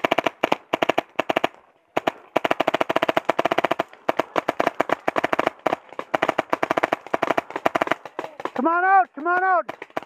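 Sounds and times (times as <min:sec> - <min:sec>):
paintball markers firing: 0:00.0 - 0:10.0.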